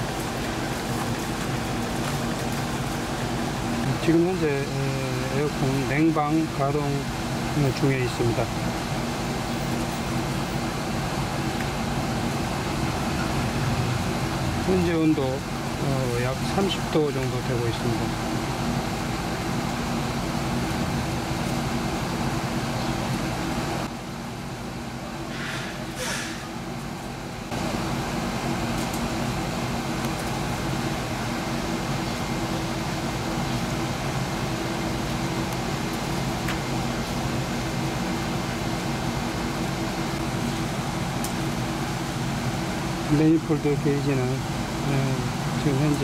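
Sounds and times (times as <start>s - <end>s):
air conditioner unit humming: 0.0s - 46.0s.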